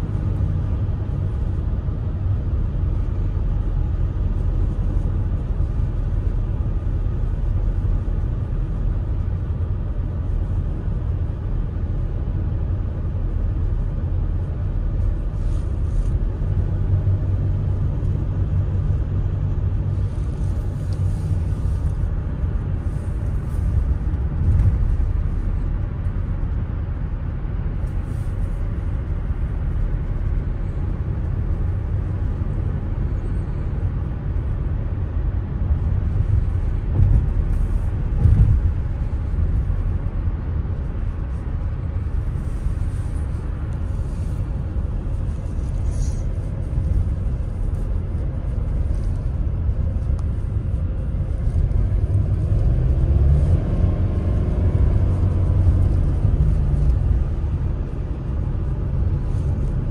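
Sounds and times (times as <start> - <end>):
van road and engine rumble: 0.0 - 59.9.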